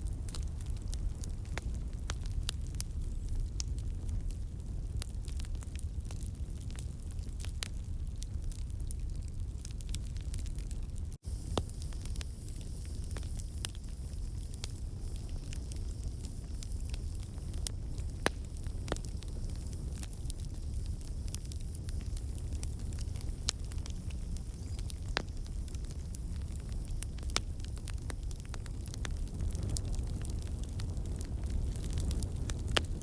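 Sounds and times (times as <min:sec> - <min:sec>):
campfire flames rumbling: 0:00.0 - 0:33.0
logs popping and crackling: 0:00.0 - 0:33.0.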